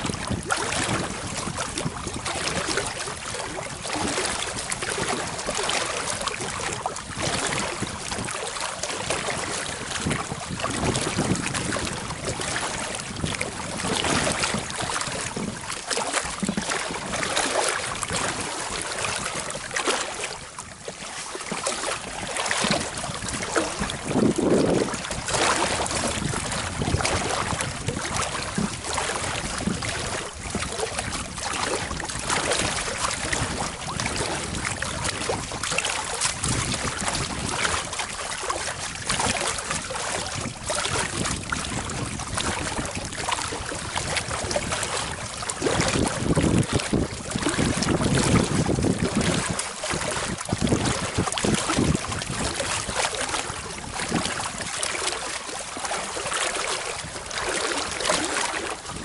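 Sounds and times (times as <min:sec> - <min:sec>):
wind buffeting microphone: 0:00.0 - 0:54.9, 0:56.9 - 0:59.0
waves lapping against boat: 0:00.0 - 0:59.0.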